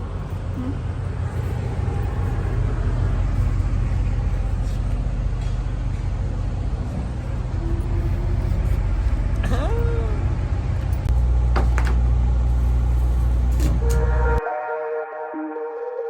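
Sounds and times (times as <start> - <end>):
truck engine rumble: 0.0 - 14.4.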